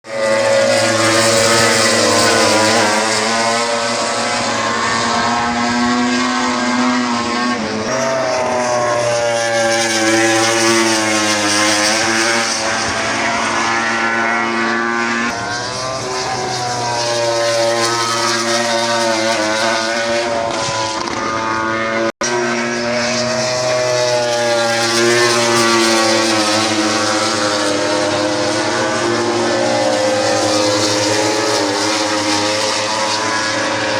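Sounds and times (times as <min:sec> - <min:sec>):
racing motorcycle engines revving: 0:00.0 - 0:33.9.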